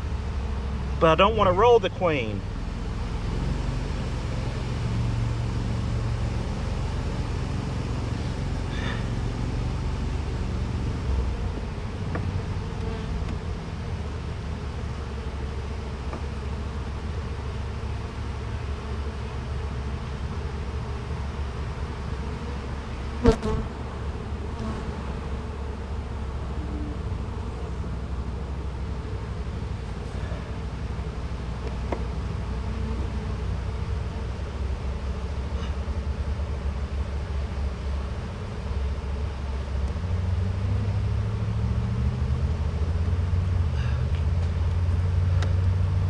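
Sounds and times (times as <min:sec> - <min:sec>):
honey bees buzzing: 0:00.0 - 0:46.0.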